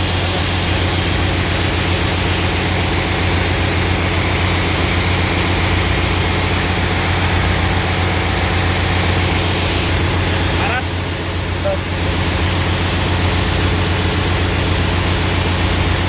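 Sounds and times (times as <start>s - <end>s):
generator engine humming: 0.0s - 16.0s.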